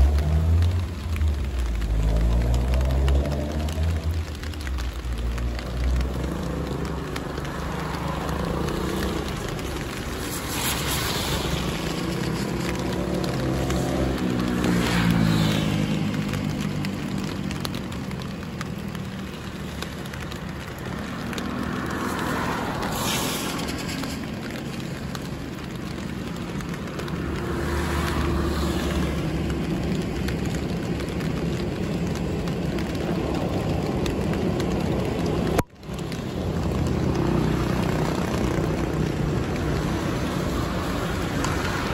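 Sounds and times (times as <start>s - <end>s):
low traffic rumble: 0.0s - 41.9s
vehicles passing: 0.0s - 41.9s.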